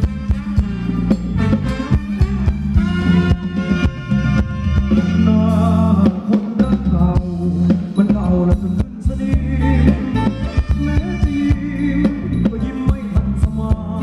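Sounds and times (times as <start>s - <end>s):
heavy bass: 0.0s - 14.0s
live band playing dance music: 0.0s - 14.0s
steady drum beat: 0.0s - 14.0s.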